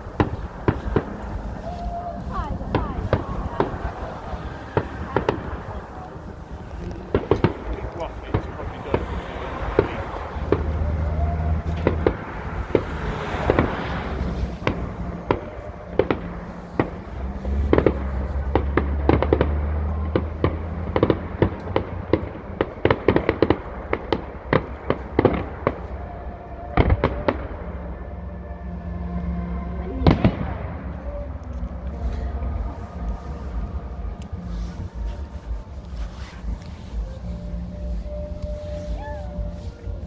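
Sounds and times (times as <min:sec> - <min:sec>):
fireworks bangs and crackles: 0:00.0 - 0:28.0, 0:28.6 - 0:40.0.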